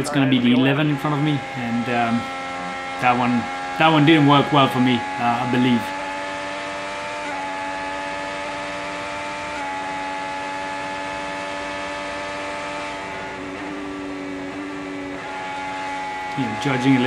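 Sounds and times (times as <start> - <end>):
race car engine at speed: 0.0 - 17.0.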